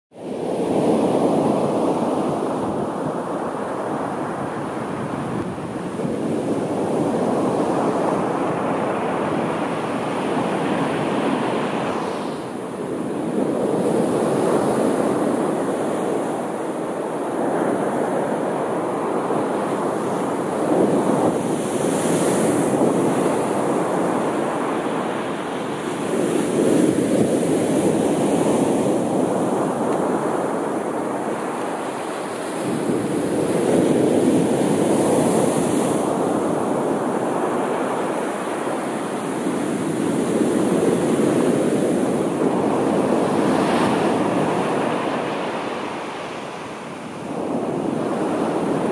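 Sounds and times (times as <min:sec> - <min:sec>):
sea waves breaking on shore: 0:00.2 - 0:48.9.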